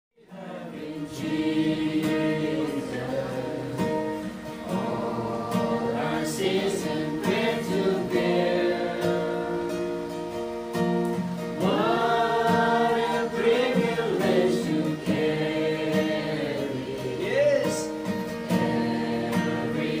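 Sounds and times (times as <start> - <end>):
group singing a worship song: 0.2 - 20.0
acoustic guitar strumming: 0.3 - 20.0.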